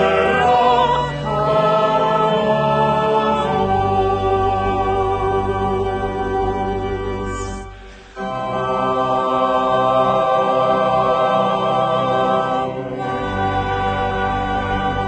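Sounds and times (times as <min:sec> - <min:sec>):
voices singing: 0:00.0 - 0:06.7, 0:08.2 - 0:15.0
organ playing slow chords: 0:00.0 - 0:15.0.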